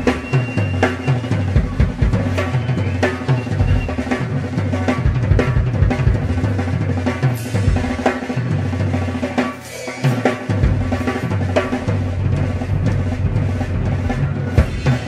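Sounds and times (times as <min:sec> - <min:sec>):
rock drum kit: 0:00.0 - 0:15.0.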